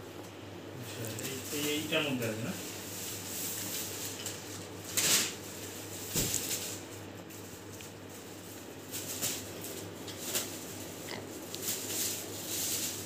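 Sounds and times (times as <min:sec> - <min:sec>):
plastic bag rustling: 0:00.8 - 0:13.0.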